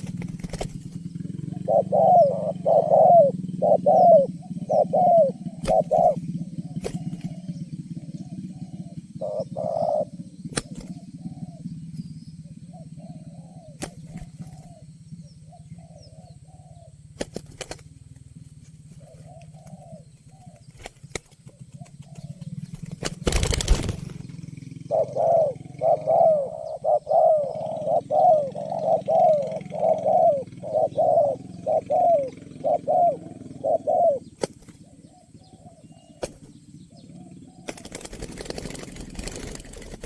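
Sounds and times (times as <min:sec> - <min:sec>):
doves cooing: 0:00.0 - 0:40.0
faint bird calling: 0:00.0 - 0:40.0.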